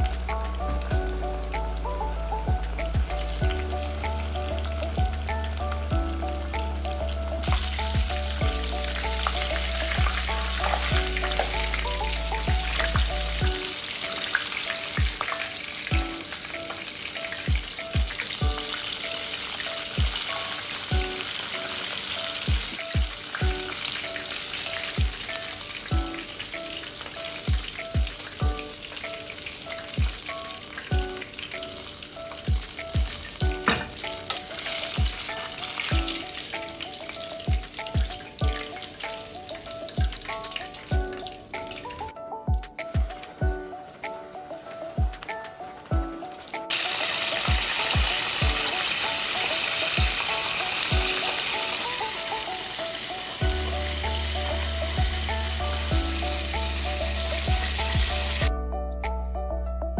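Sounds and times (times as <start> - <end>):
oil sizzling deep-frying: 0.0 - 58.6.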